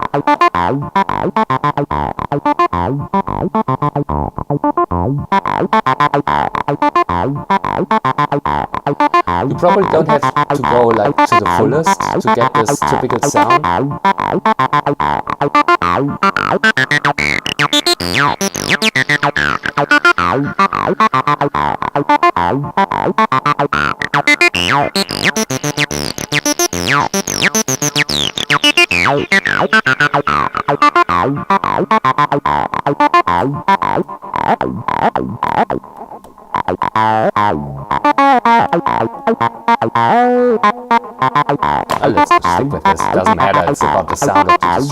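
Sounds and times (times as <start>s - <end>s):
distorted acid bassline: 0.0s - 44.9s.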